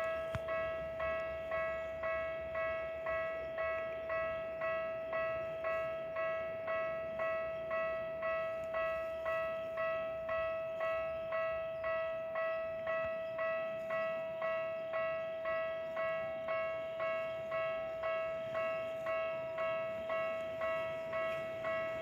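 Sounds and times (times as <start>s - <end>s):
electronic crossing bell striking: 0.0s - 22.0s.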